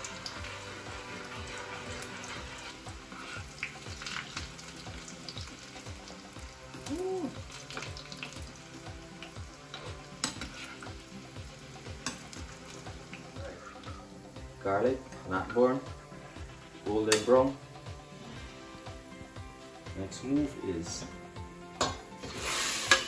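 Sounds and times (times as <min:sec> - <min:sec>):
garlic sizzling in oil: 0:00.0 - 0:19.9, 0:21.7 - 0:23.0
background music with steady beat: 0:00.0 - 0:23.0.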